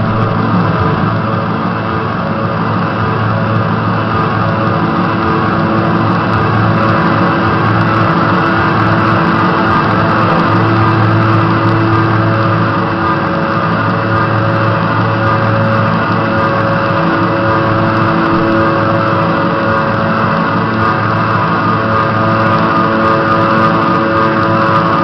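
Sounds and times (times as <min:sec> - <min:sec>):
electronic drone music: 0:00.0 - 0:25.0.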